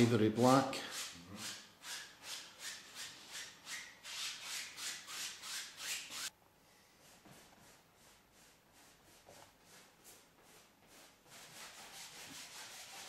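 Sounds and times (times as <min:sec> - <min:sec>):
painting tool rubbing strokes: 0:00.8 - 0:06.3, 0:07.0 - 0:13.0.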